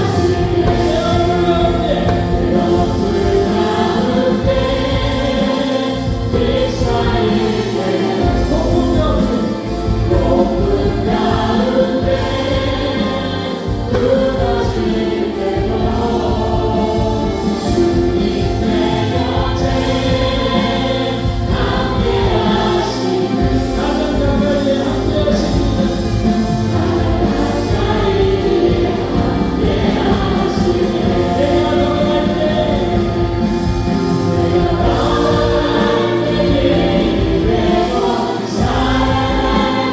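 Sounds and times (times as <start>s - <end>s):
group singing: 0.0s - 39.9s
lead vocals: 0.0s - 39.9s
worship band playing: 0.0s - 39.9s.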